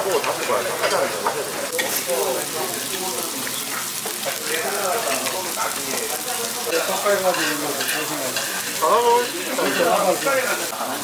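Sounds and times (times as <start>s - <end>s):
many people talking: 0.0s - 11.0s.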